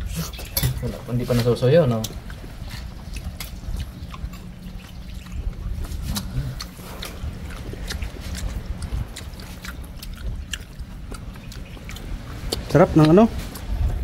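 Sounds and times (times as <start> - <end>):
low microphone rumble: 0.0 - 14.0
people eating and chewing: 0.0 - 14.0.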